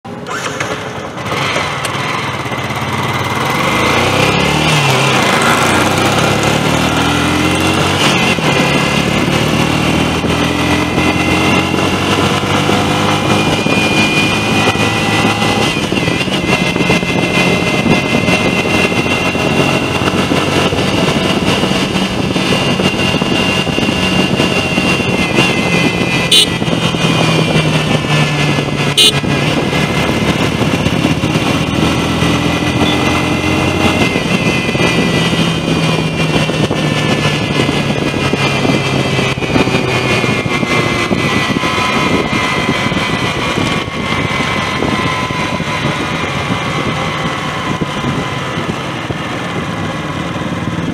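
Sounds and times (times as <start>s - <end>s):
motorcycle engine accelerating: 0.1s - 50.9s.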